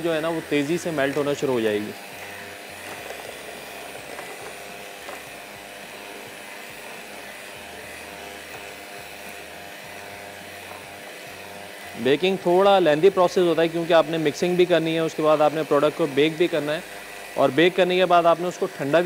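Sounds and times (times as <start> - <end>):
electric hand beater humming: 0.0 - 19.0.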